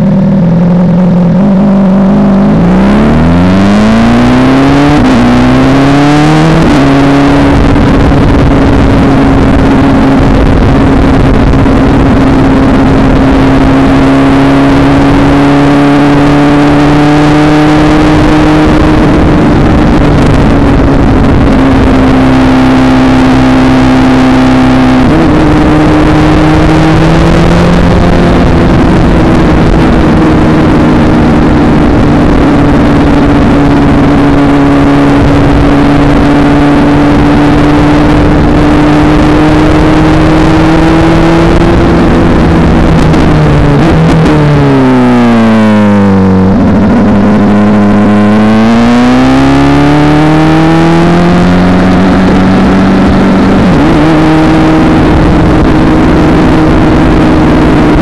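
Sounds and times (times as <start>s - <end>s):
loud motorcycle engine: 0.0s - 58.0s.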